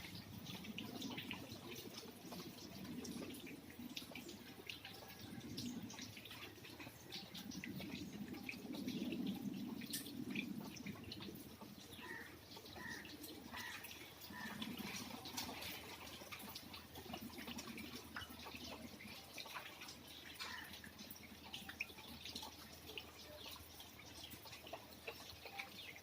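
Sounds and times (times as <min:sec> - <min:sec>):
rain dripping and pattering: 0:00.0 - 0:26.0.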